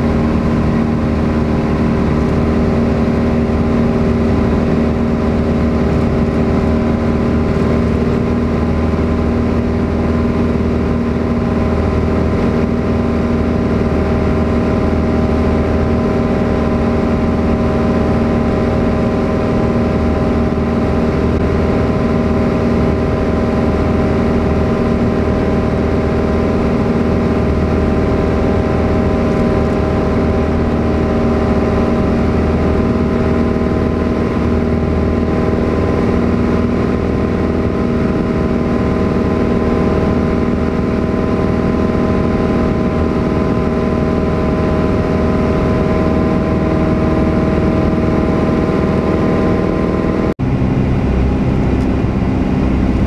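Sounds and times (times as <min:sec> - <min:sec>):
airplane engine and propeller droning: 0:00.0 - 0:53.0.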